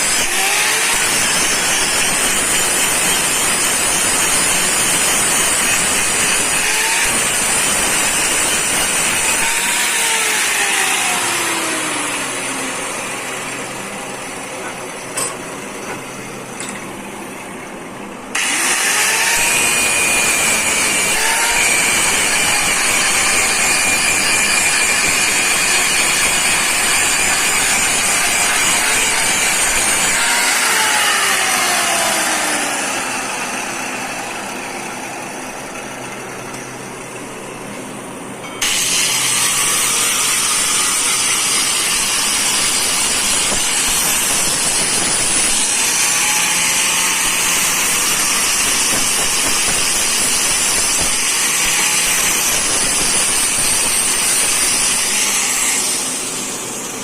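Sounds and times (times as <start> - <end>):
power tool running: 0.0 - 14.9, 18.3 - 37.5, 38.6 - 57.0.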